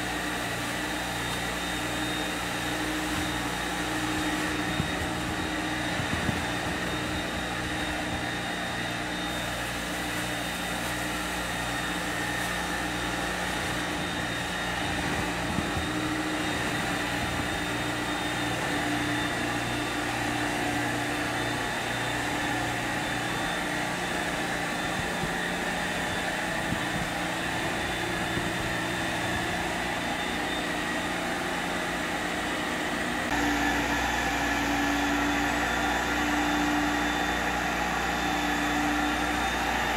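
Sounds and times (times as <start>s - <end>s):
vacuum motor whining: 0.0s - 39.9s.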